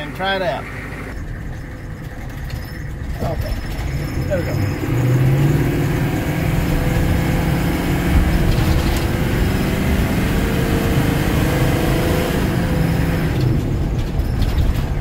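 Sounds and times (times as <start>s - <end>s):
diesel van engine accelerating: 0.0s - 15.0s.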